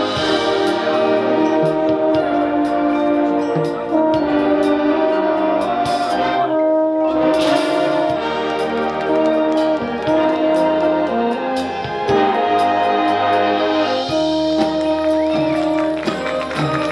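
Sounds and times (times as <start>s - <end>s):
brass sustained chords: 0.0s - 16.9s
marching band percussion: 0.0s - 16.9s.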